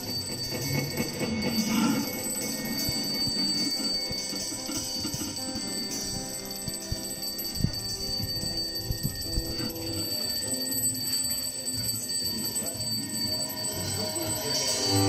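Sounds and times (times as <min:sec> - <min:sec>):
high steady ringing: 0:00.0 - 0:15.0.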